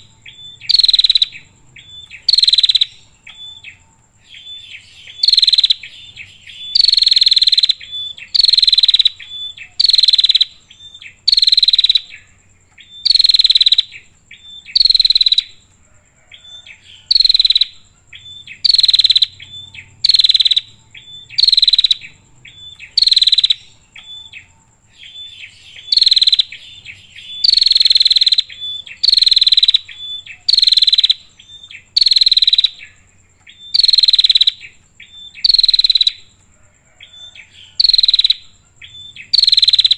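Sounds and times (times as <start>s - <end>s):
bird buzzy calls: 0.0s - 39.9s.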